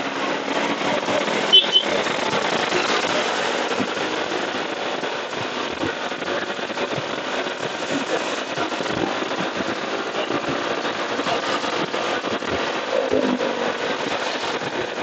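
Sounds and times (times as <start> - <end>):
crackling microphone noise: 0.0 - 15.0.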